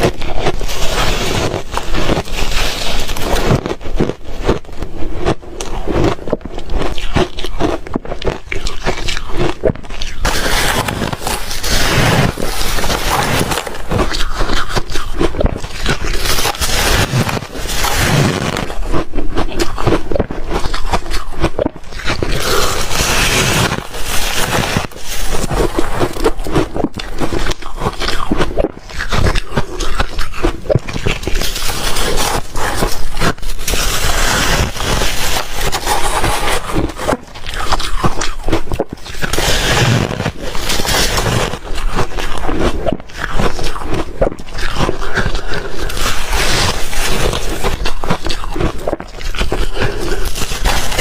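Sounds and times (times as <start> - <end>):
crunching and chewing ice: 0.0 - 51.0.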